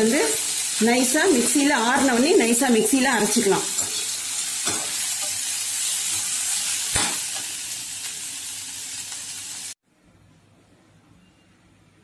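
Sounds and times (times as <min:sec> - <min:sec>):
spices sizzling in oil: 0:00.0 - 0:09.8.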